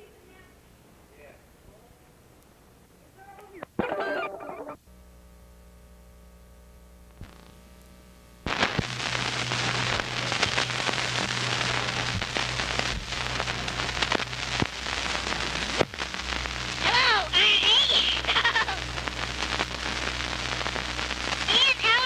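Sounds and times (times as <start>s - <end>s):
dense crackling hiss: 0.0s - 22.0s
low steady hum: 0.0s - 22.0s.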